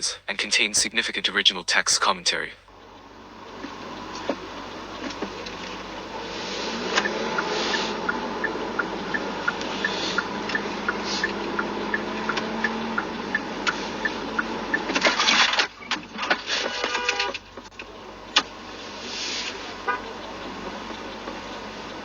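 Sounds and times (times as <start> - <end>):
vehicle road noise: 1.7 - 22.0.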